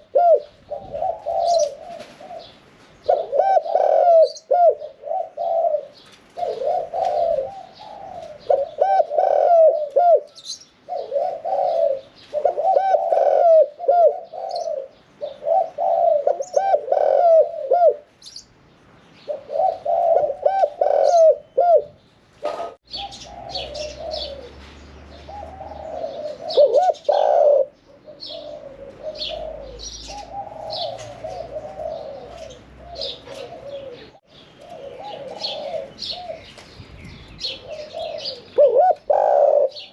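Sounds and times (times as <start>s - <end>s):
dove cooing: 0.0s - 18.2s, 19.2s - 39.9s
small birds chirping: 0.0s - 39.9s.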